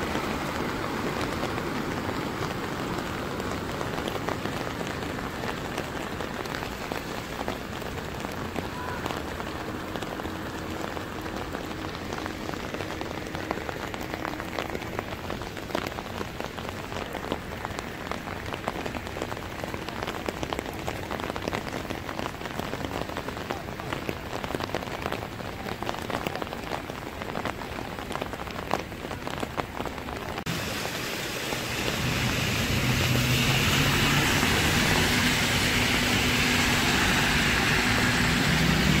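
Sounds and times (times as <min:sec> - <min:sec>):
heavy rain on a flooded street: 0:00.0 - 0:39.0.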